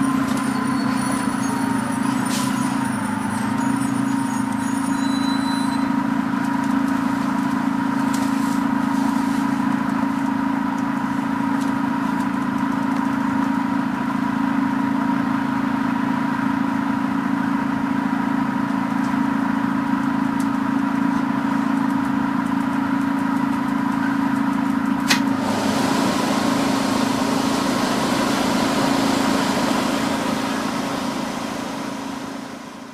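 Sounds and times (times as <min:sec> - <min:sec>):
bus engine drone: 0:00.0 - 0:32.9.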